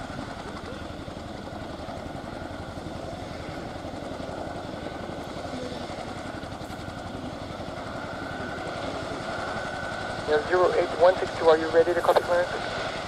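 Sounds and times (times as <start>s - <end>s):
helicopter rotors beating: 0.0s - 13.0s
turbine engines whining: 0.0s - 13.0s.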